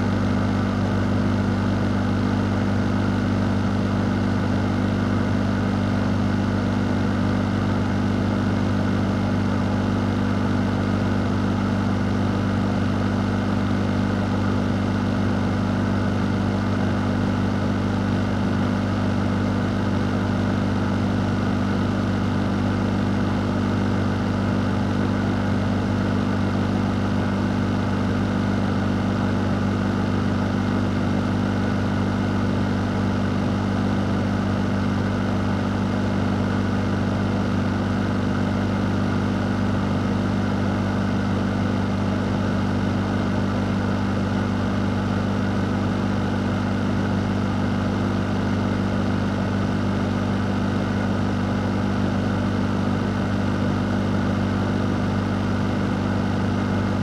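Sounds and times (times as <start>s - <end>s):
fan running: 0.0s - 57.0s.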